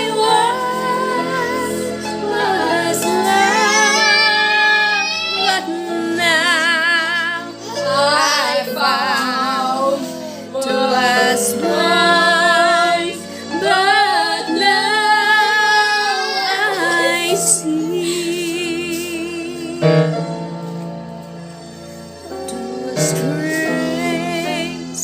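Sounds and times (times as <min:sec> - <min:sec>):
woman singing with vibrato: 0:00.0 - 0:19.8, 0:22.7 - 0:25.0
musical accompaniment: 0:00.0 - 0:25.0.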